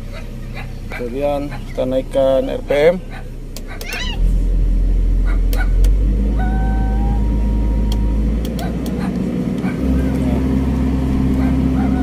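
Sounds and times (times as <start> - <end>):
excavator diesel engine rumble: 0.0 - 12.0.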